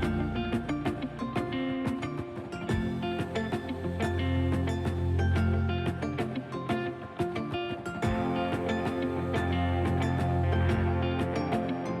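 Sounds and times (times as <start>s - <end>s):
plucked guitar notes: 0.0s - 12.0s.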